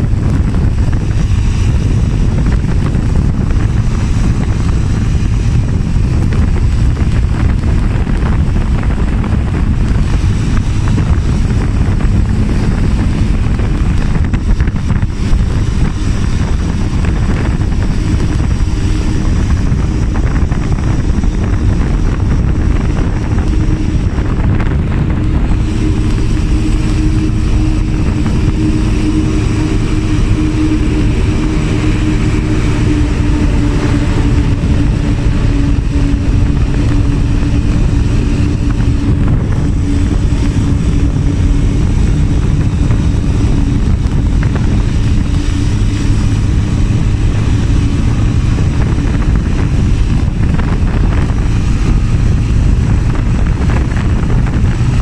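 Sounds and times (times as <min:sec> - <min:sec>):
droning engine tone: 0:00.0 - 0:55.0
motorbike engine rumble: 0:00.0 - 0:55.0
wind rushing over microphone: 0:00.0 - 0:55.0.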